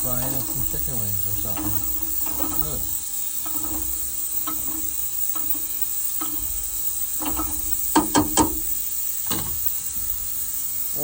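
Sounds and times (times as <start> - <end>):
ultrasonic cleaner buzzing hiss: 0.0 - 11.0.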